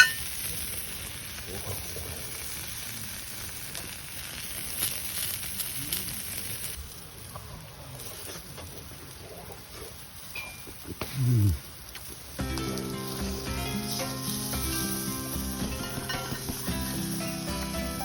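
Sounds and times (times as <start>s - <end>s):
food sizzling on griddle: 0.0s - 18.0s.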